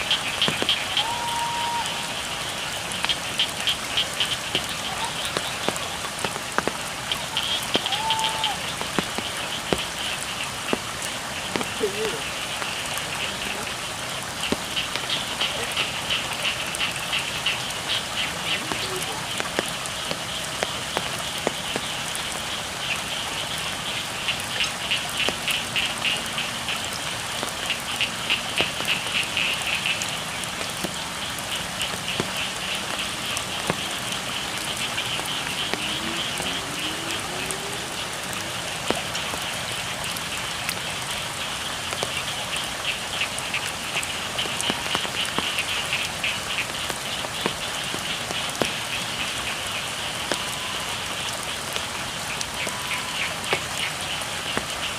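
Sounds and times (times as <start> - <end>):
drips ticking: 0.0 - 54.9
frogs trilling: 0.0 - 54.9
steady rain: 0.0 - 54.9.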